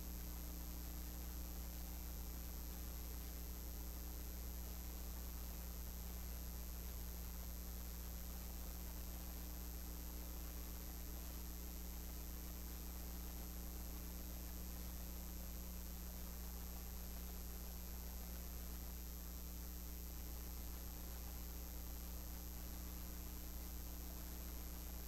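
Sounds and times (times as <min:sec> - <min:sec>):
faint high-pitched whine: 0:00.0 - 0:25.0
low electrical hum with hiss: 0:00.0 - 0:25.0.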